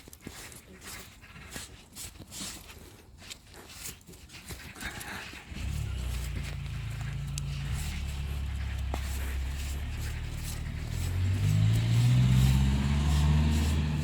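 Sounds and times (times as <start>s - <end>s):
light clicks and scraping: 0.0s - 14.0s.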